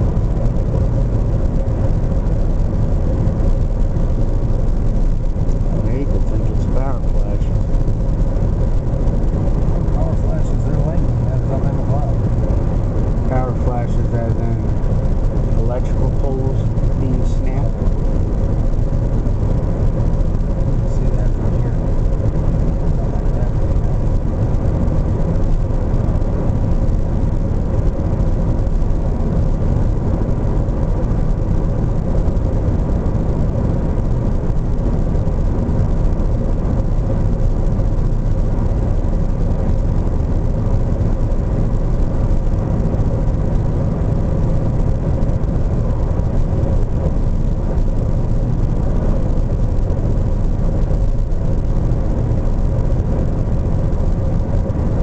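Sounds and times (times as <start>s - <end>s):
vehicle cabin drone: 0.0s - 55.0s.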